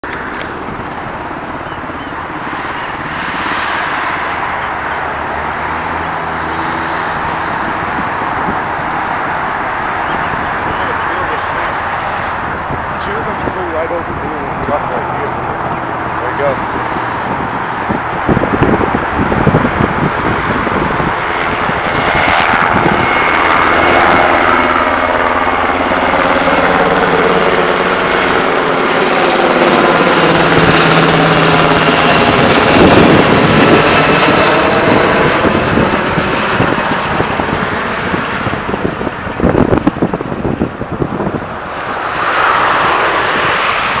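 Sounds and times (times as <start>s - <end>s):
helicopter engine whine: 0.0s - 44.0s
helicopter rotor beat: 0.0s - 44.0s.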